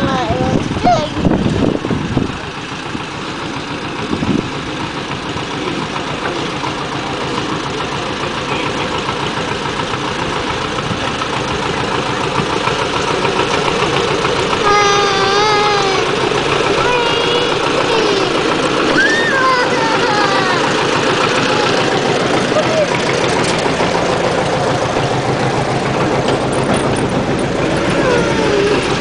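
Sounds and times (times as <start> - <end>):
diesel locomotive running: 0.0 - 29.0.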